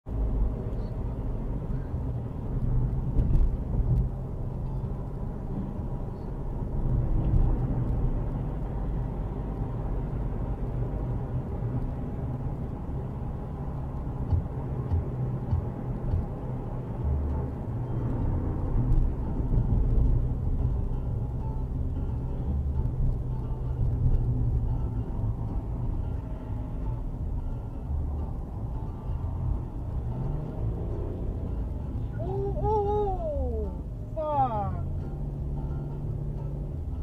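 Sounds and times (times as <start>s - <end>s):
car driving on highway: 0.0s - 37.0s.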